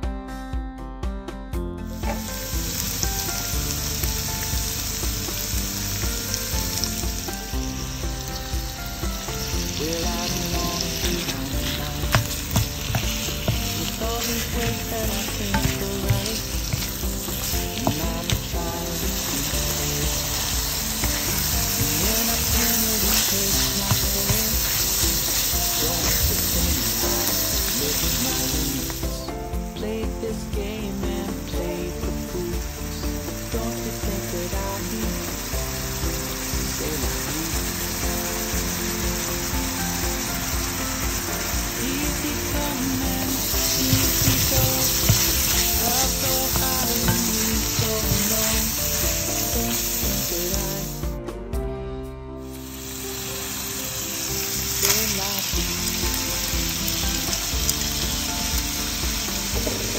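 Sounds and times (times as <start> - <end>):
meat and onion sizzling in pan: 1.8 - 51.2, 52.5 - 59.9.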